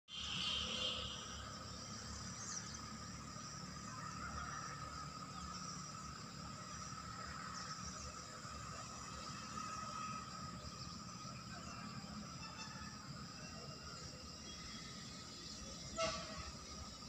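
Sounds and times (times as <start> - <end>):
insects humming: 0.1 - 17.0.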